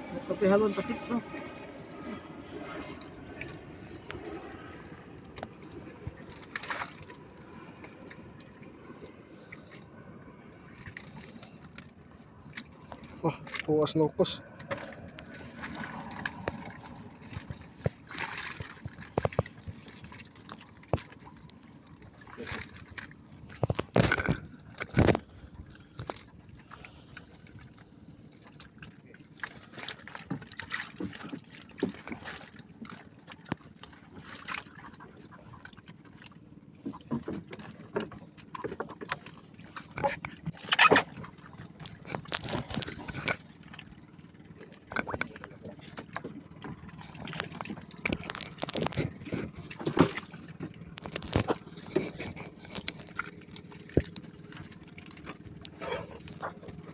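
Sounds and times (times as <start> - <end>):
water sloshing and splashing: 0.0 - 56.9
knocks and clatter on boat: 0.6 - 9.9, 10.6 - 56.9.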